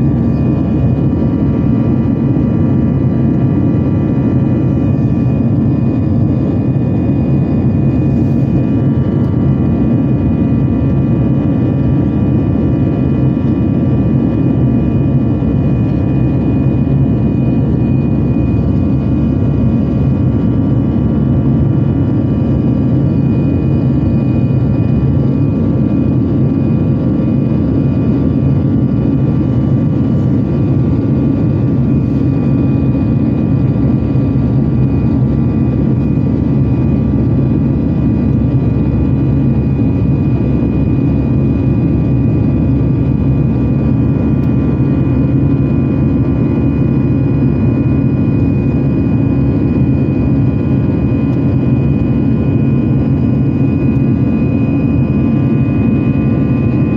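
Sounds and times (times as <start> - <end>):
jet engine cabin drone: 0.0 - 56.9.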